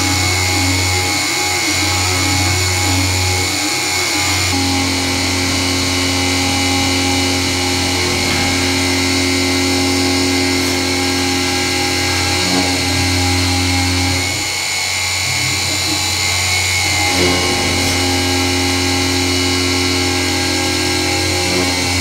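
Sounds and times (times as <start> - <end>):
milling machine hum and whine: 0.0 - 22.0.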